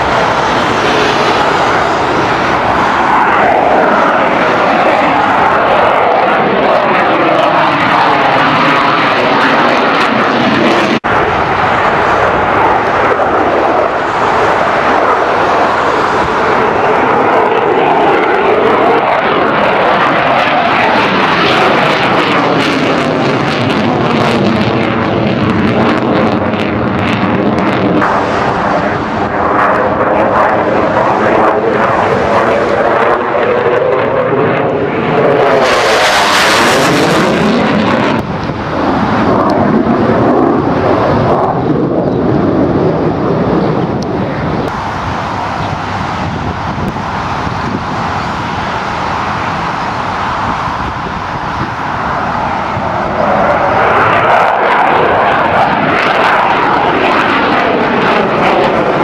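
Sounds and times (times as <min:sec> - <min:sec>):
fighter jet engine roar: 0:00.0 - 0:59.0.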